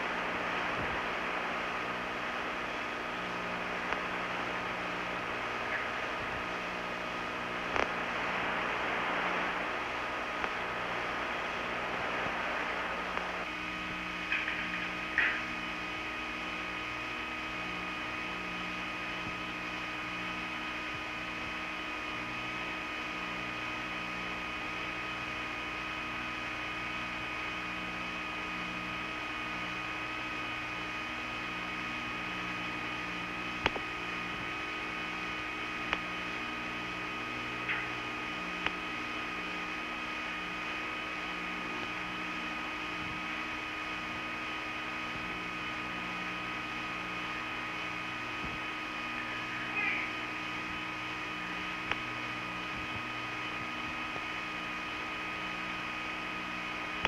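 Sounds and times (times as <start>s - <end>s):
cabin fans humming: 0.0s - 57.0s.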